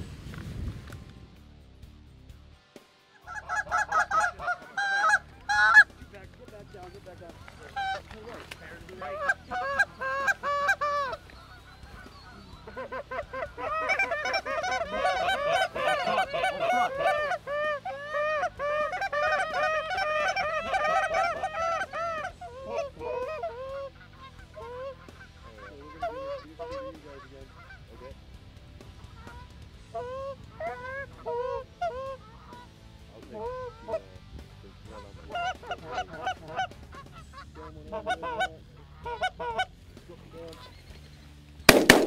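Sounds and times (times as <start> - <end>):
goose honking: 3.3 - 28.2, 29.0 - 34.1, 34.9 - 40.8.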